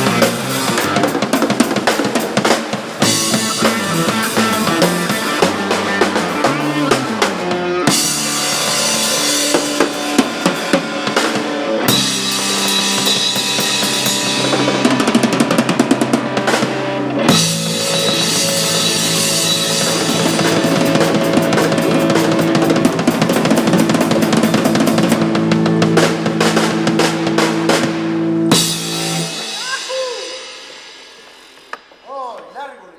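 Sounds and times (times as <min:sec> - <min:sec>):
band playing: 0:00.0 - 0:32.9
drum kit: 0:00.0 - 0:32.9.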